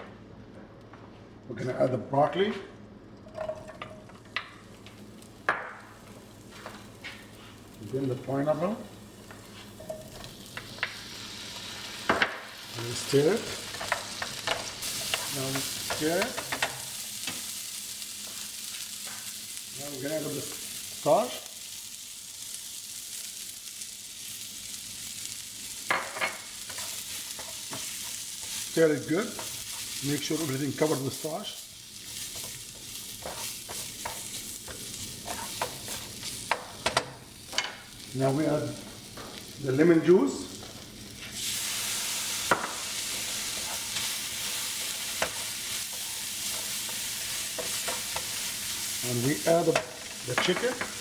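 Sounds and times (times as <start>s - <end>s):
vegetables sizzling in frying pan: 3.4s - 51.0s.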